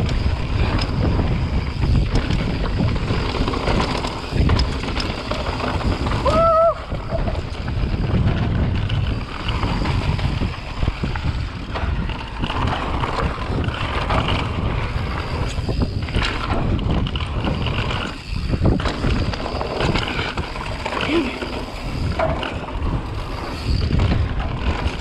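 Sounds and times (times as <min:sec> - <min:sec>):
bike knocks and rattles: 0:00.0 - 0:25.0
tyres rolling over dirt and stones: 0:00.0 - 0:25.0
wind buffeting microphone: 0:00.0 - 0:25.0.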